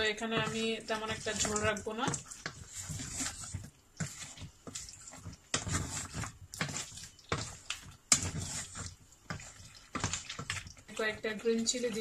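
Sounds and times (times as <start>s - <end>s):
wooden spatula scraping saucepan: 0.0s - 12.0s.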